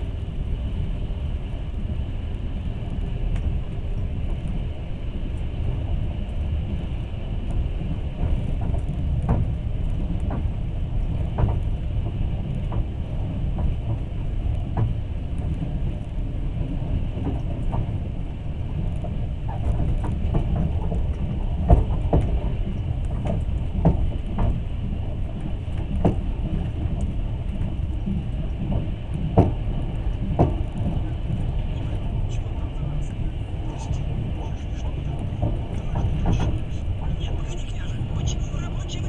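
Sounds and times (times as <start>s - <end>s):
train rumbling: 0.0s - 39.0s
wheels clacking on track: 3.0s - 39.0s.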